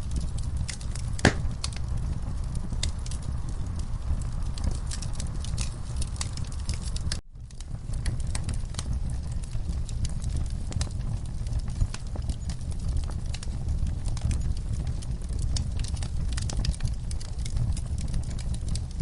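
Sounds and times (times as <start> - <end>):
log fire crackling: 0.0 - 19.0.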